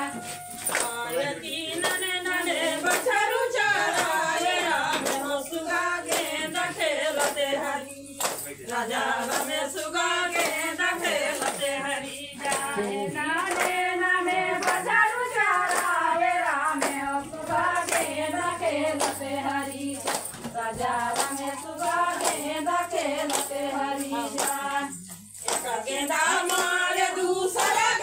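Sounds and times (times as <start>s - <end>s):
handclaps: 0.0s - 28.0s
women singing in chorus: 0.0s - 28.0s.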